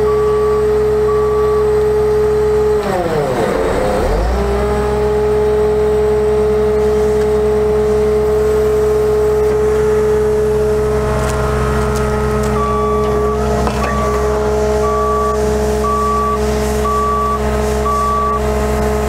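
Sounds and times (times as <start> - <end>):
diesel engine running: 0.0 - 19.0
hydraulic pump whining: 1.7 - 19.0.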